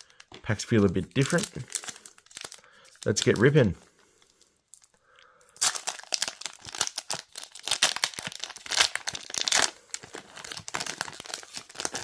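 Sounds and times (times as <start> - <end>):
wrapper ripping and crinkling: 0.0 - 12.0.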